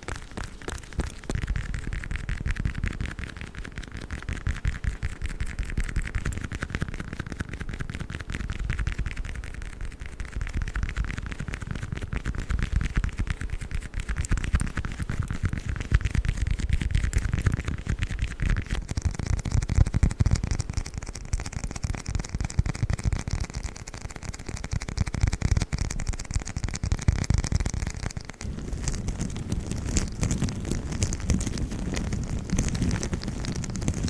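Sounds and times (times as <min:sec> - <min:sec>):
sticky gloves rubbing and peeling: 0:00.0 - 0:21.4, 0:23.0 - 0:34.0
sticky crawler toy: 0:00.0 - 0:34.0.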